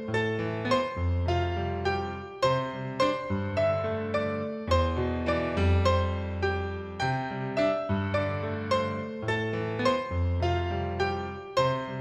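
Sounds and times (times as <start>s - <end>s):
solo piano playing chords: 0.0s - 12.0s.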